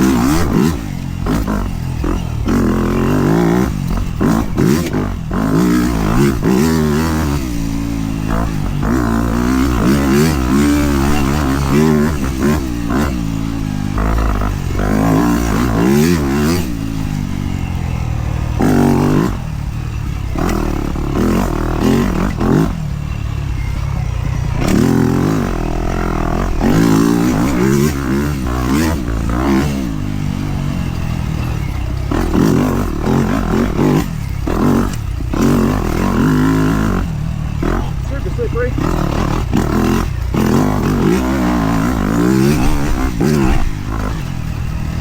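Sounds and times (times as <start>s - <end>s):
bike knocks and rattles: 0.0s - 45.0s
dirt bike engine revving: 0.0s - 45.0s.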